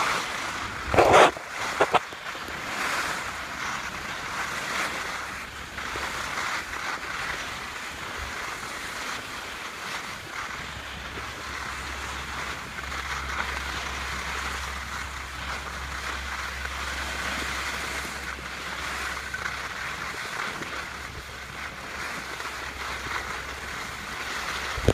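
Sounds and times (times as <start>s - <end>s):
skis hissing over snow: 0.0s - 24.9s
wind rumbling on microphone: 0.0s - 24.9s.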